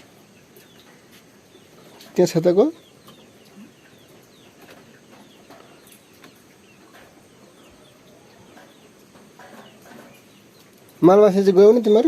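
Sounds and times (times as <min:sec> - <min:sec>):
faint chicken calls: 0:00.0 - 0:10.9.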